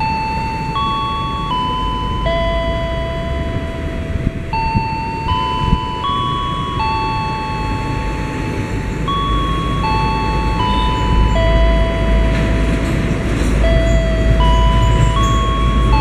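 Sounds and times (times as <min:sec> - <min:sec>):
diesel train rumble: 0:00.0 - 0:16.0
electronic chime melody: 0:00.0 - 0:16.0.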